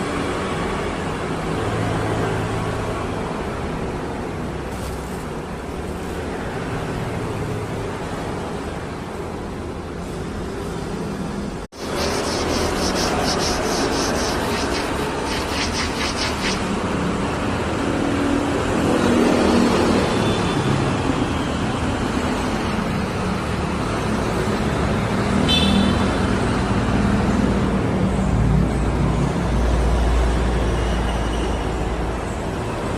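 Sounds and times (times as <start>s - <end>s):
vehicles passing: 0.0s - 31.0s.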